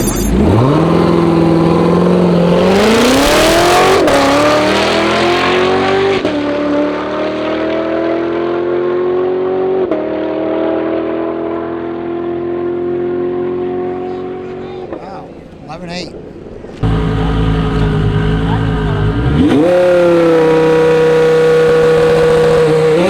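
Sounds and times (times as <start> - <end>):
car engine accelerating hard: 0.0 - 14.9, 16.8 - 23.0.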